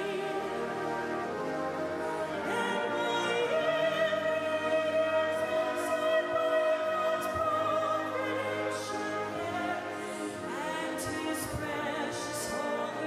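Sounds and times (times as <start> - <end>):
brass band playing a hymn: 0.0 - 13.0.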